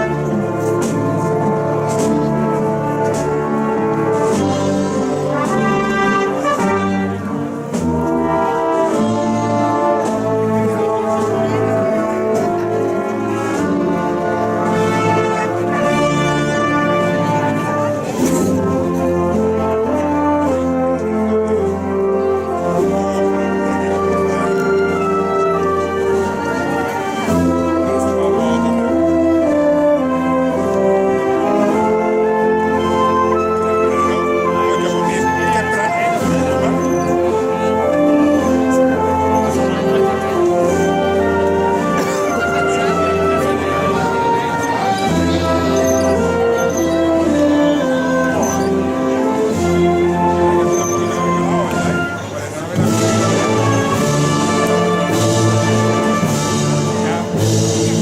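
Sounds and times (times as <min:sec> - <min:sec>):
brass chords: 0:00.0 - 0:58.0.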